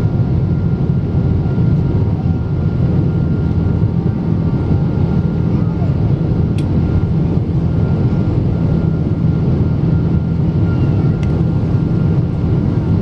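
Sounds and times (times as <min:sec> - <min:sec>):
airliner cabin engine and airflow noise: 0:00.0 - 0:13.0.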